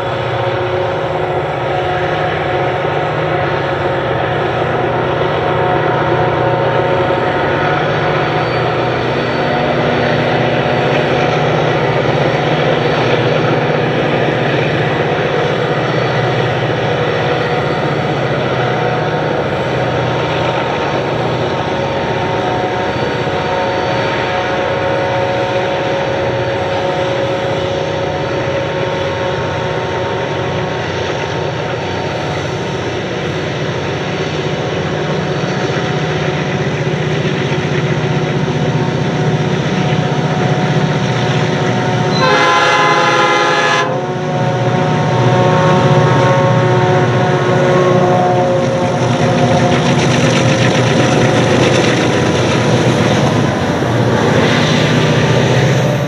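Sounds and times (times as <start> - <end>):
locomotive engines droning: 0.0 - 56.0.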